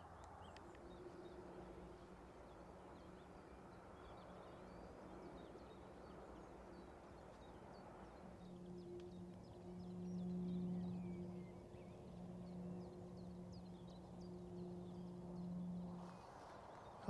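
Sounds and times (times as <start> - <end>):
distant birdsong chirps: 0.0 - 17.0
low steady hum: 0.0 - 17.0.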